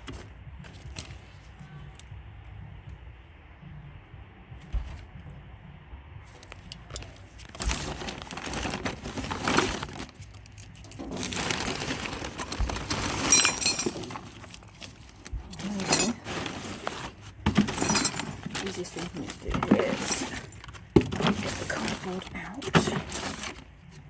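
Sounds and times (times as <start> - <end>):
scrap clattering and rustling: 0.0 - 2.1, 6.3 - 24.0.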